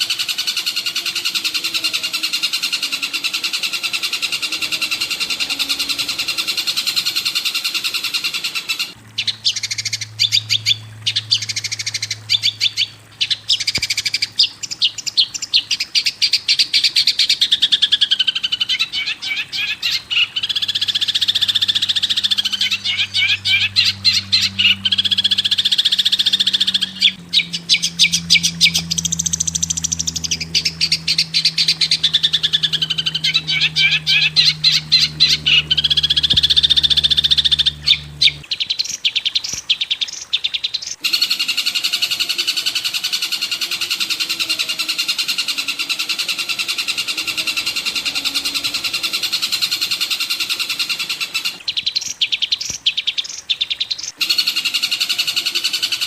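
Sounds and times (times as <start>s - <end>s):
low steady hum: 0.0s - 38.6s, 41.0s - 51.7s
songbird chirping and trilling: 0.0s - 56.0s.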